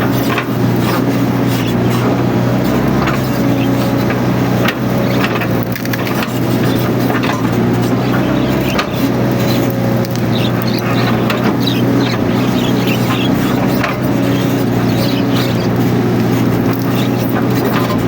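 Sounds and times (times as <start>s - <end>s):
diesel engine running: 0.0s - 18.0s
woody scrub cracking: 0.0s - 18.0s.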